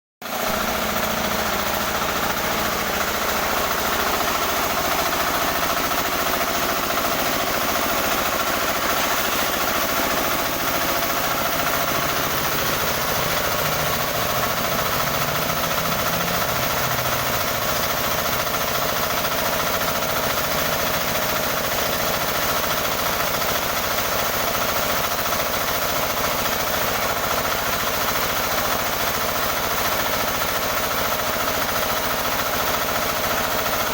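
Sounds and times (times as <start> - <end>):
sawmill engine running: 0.2 - 33.9.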